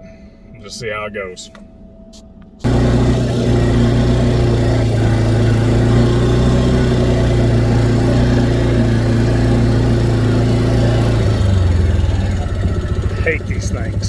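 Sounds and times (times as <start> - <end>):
vehicle engine running: 2.6 - 14.0.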